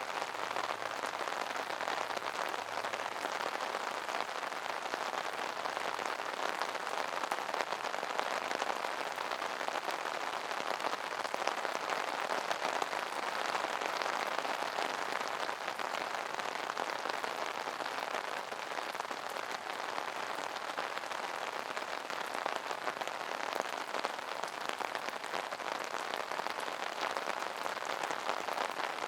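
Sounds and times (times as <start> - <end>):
rain pattering on an umbrella: 0.0 - 29.0.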